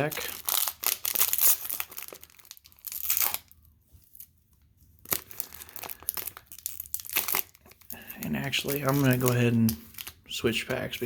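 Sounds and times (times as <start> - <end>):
wrapper crinkling: 0.0 - 4.4, 5.0 - 11.0.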